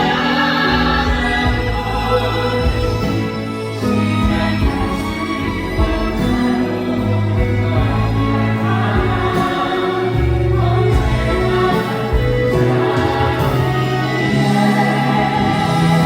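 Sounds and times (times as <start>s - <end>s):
group of voices singing: 0.0s - 16.0s
live instrumental accompaniment: 0.0s - 16.0s.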